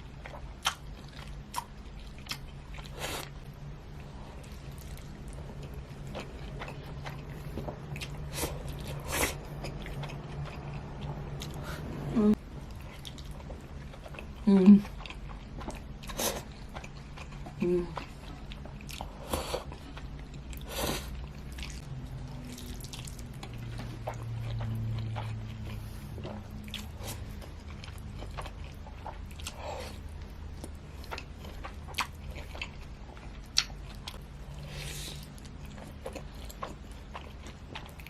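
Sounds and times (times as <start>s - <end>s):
chewing with wet mouth clicks: 0.1s - 11.8s, 12.5s - 38.0s.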